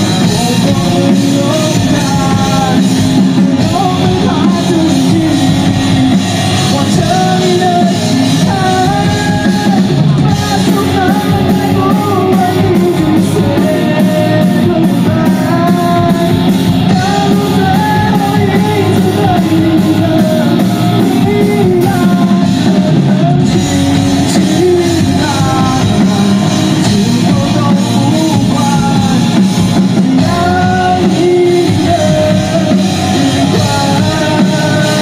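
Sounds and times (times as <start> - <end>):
drum kit: 0.0 - 35.0
electric bass: 0.0 - 35.0
electric guitars: 0.0 - 35.0
man singing: 0.0 - 35.0.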